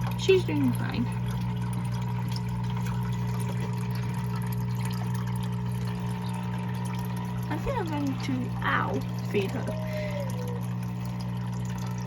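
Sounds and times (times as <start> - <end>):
water pump humming: 0.0 - 12.0
water trickling: 0.0 - 12.0.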